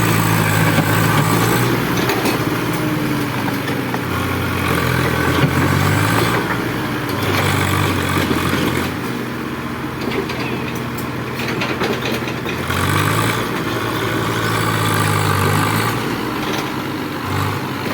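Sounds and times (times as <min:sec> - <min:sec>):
heavy diesel engine running: 0:00.0 - 0:17.9.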